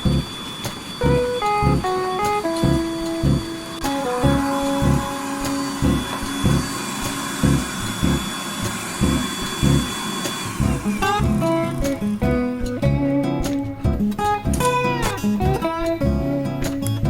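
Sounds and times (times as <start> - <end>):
background music with steady beat: 0.0 - 17.0
dust extractor whining: 0.0 - 17.0.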